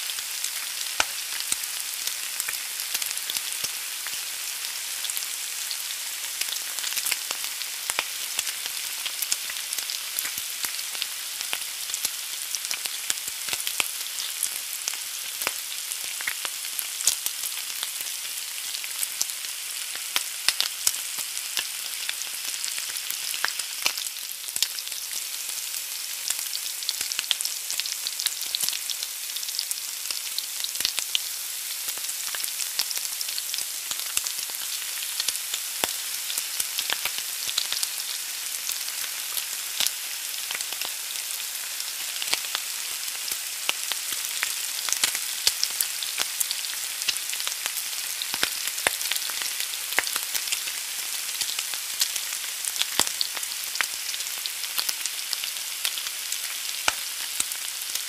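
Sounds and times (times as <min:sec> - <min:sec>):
egg sizzling in a pan: 0:00.0 - 0:58.0.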